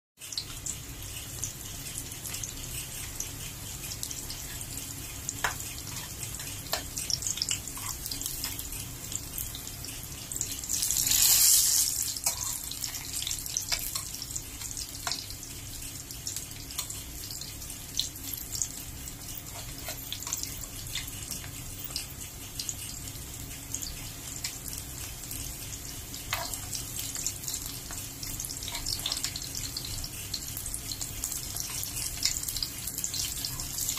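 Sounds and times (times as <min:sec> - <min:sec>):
oil sizzling in a frying pan: 0:00.2 - 0:33.9.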